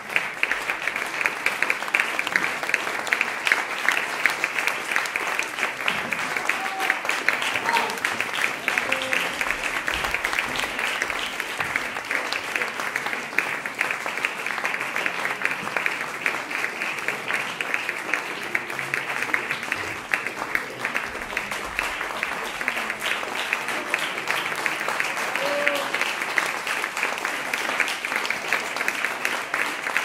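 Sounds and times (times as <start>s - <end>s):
audience clapping: 0.0s - 30.0s.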